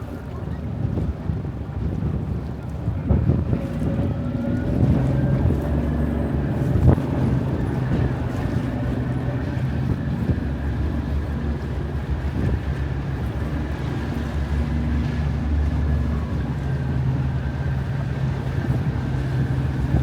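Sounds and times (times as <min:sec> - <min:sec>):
boat engine humming: 0:00.0 - 0:20.0
wind on microphone: 0:00.0 - 0:20.0.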